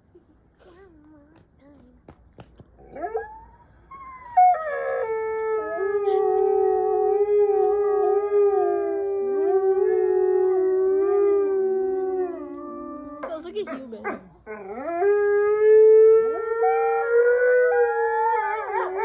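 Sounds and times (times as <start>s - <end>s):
wolves howling: 3.0s - 13.2s, 14.0s - 19.0s.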